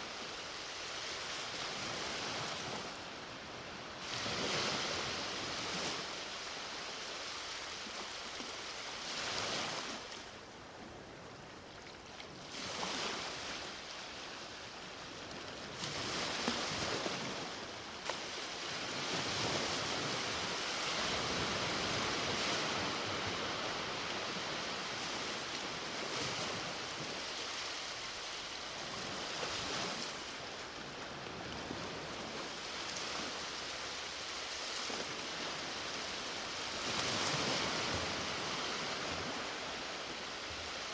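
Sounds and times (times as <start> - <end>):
ocean waves washing onto beach: 0.0 - 11.7, 12.3 - 40.9.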